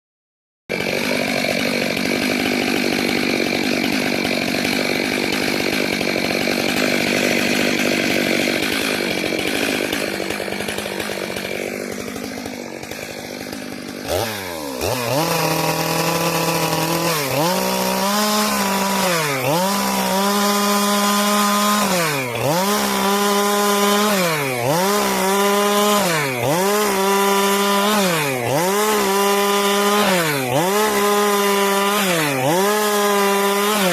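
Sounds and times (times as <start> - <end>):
chainsaw sawing wood: 0.7 - 33.9.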